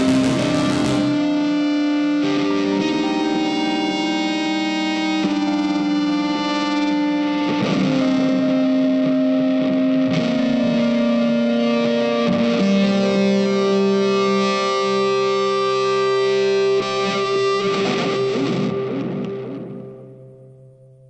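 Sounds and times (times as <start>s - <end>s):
effected guitar chords: 0.0s - 21.0s.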